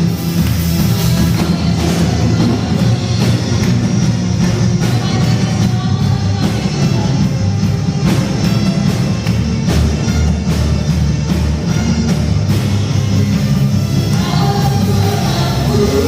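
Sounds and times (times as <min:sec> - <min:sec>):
drum kit beat: 0:00.0 - 0:16.0
worship band playing: 0:00.0 - 0:16.0.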